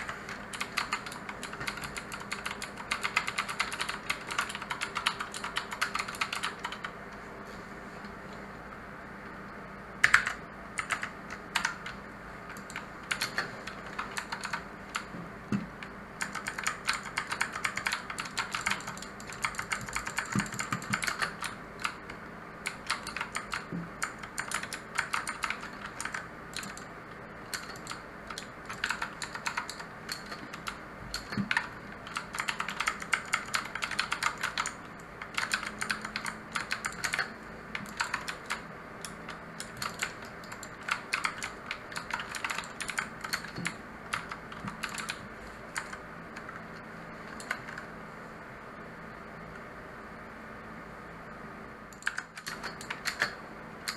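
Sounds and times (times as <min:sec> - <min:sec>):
mechanical keyboard typing: 0:00.3 - 0:06.9, 0:10.0 - 0:26.9, 0:27.5 - 0:46.6, 0:47.3 - 0:47.9, 0:51.9 - 0:53.9.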